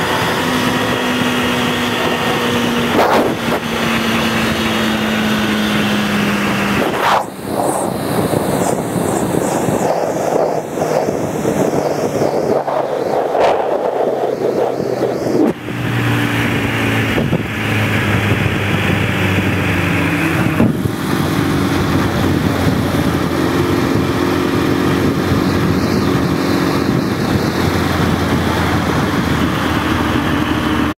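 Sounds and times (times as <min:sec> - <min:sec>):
motorcycle engine cruising: 0:00.0 - 0:30.9
wind noise: 0:00.0 - 0:30.9
road noise: 0:00.0 - 0:31.0.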